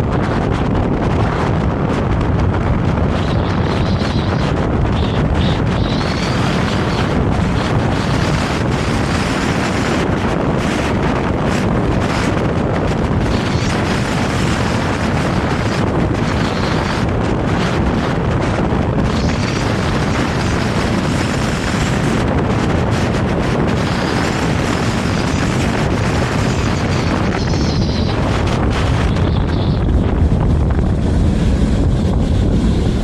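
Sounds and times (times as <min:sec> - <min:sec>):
tram wheels rumbling: 0:00.0 - 0:33.0
wind buffeting microphone: 0:00.0 - 0:33.0.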